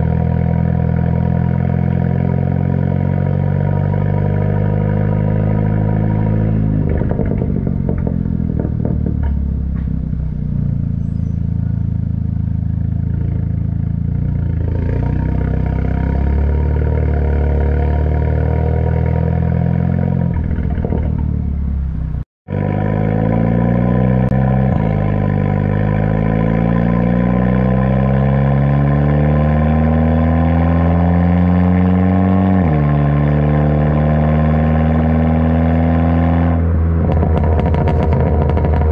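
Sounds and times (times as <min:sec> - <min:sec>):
turbocharged car engine accelerating: 0:00.0 - 0:38.9.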